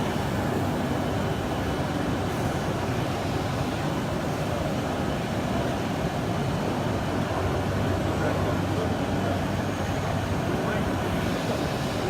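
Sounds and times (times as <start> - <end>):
steady rumbling hall noise: 0.0 - 12.0.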